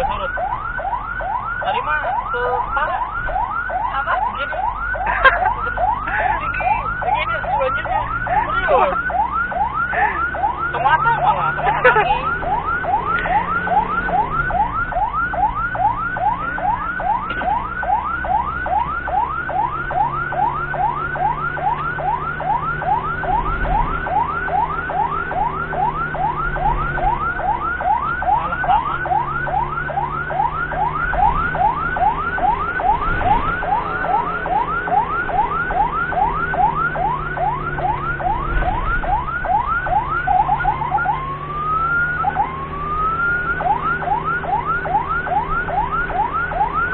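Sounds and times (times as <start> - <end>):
ambulance siren yelping: 0.0 - 46.9
vehicle engine hum: 0.0 - 46.9.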